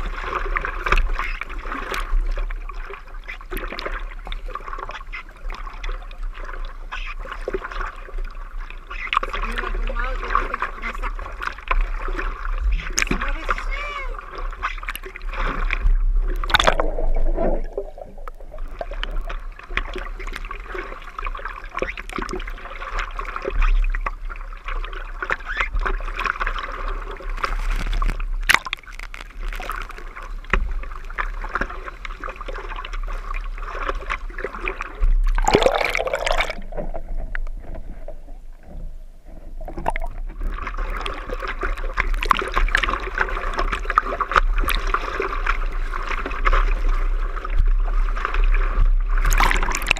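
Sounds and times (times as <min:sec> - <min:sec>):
seawater sloshing and gurgling: 0:00.0 - 0:49.9
water splashes: 0:00.0 - 0:49.9.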